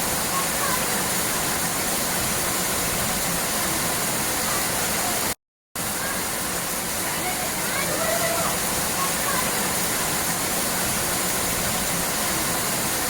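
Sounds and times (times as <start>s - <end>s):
rushing water roar: 0.0s - 13.0s.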